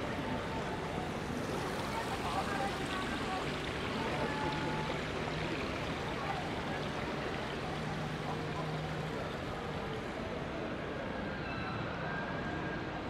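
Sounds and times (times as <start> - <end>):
crowd babble: 0.0 - 13.0.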